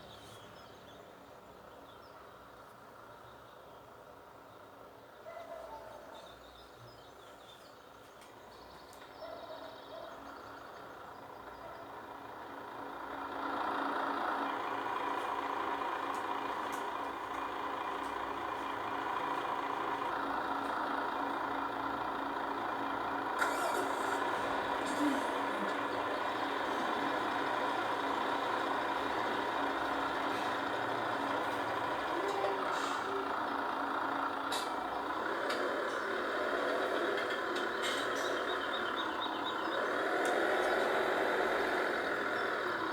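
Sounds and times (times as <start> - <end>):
engine droning steadily: 0.0 - 42.9.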